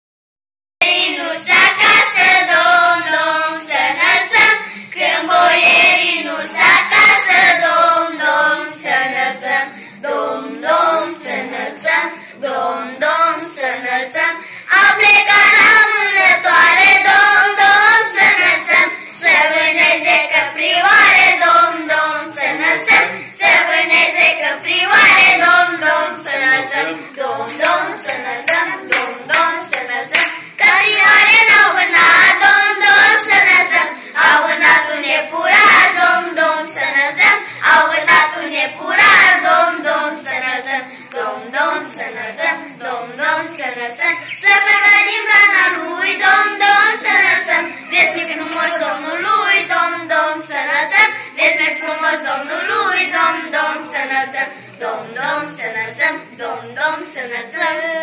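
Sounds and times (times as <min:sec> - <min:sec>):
children singing a carol: 0:00.8 - 0:58.0.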